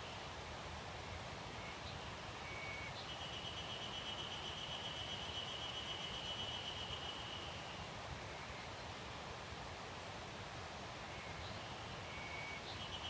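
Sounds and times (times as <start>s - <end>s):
wind in leaves: 0.0s - 13.0s.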